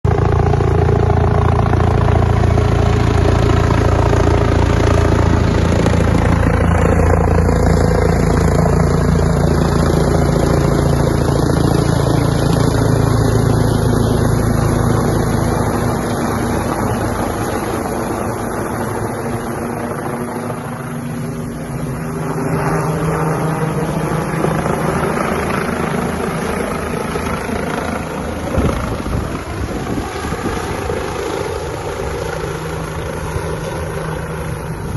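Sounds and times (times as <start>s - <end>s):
helicopter rotor and engines: 0.0s - 34.9s.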